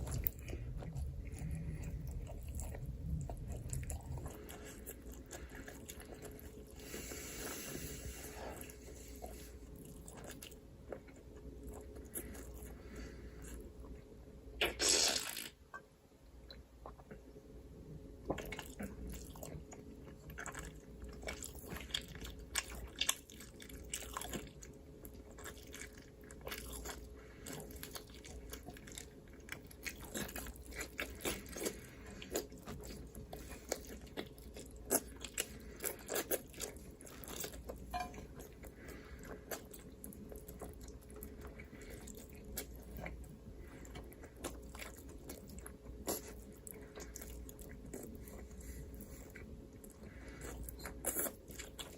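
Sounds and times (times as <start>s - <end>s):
crunching and chewing: 0.0s - 15.8s, 18.1s - 51.9s
faint low hum: 0.0s - 51.9s.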